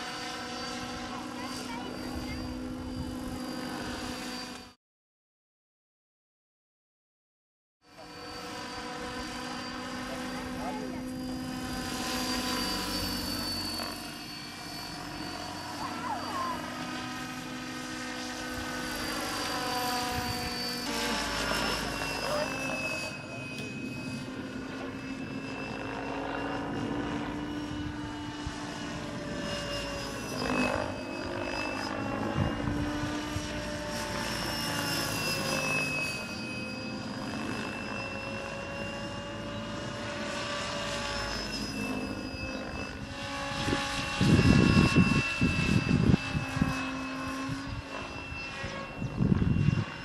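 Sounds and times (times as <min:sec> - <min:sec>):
model helicopter motor and rotor whine: 0:00.0 - 0:04.8, 0:07.8 - 0:50.0.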